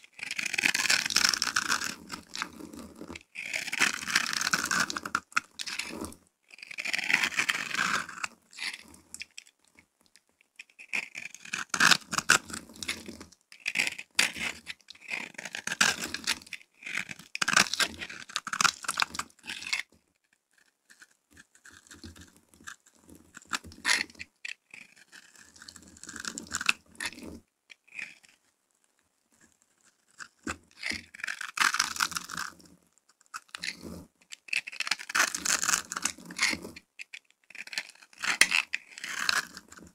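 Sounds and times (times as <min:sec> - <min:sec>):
knife scraping dry soap: 0:00.0 - 0:39.9.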